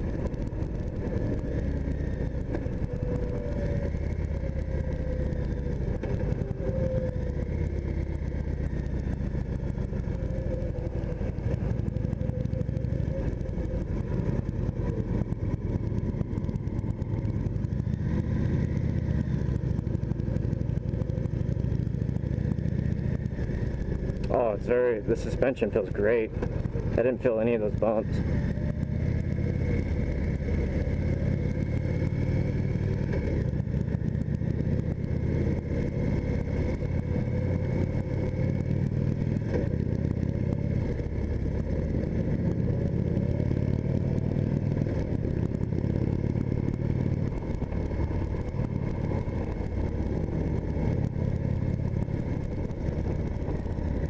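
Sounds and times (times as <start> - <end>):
motorcycle engine at road speed: 0.0 - 54.0.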